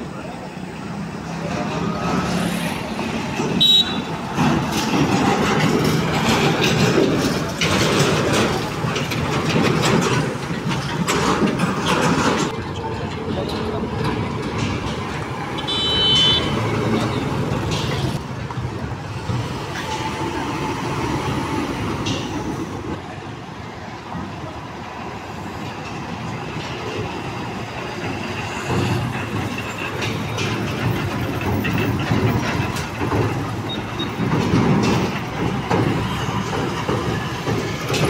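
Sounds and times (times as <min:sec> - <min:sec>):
diesel trucks driving past: 0:00.0 - 0:38.0.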